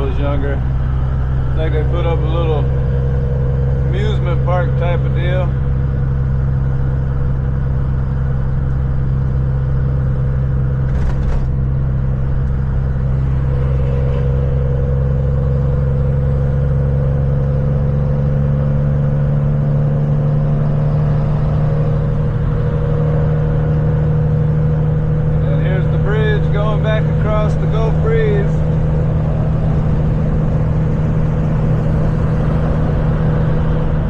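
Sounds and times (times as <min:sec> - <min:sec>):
vehicle engine and road drone: 0:00.0 - 0:34.0.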